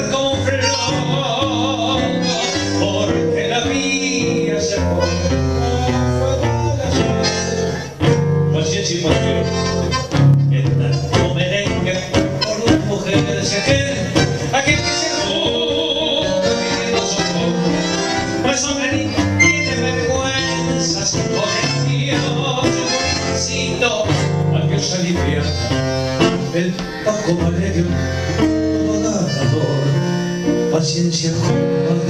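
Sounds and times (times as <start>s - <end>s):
acoustic guitars playing tango: 0.0s - 32.0s.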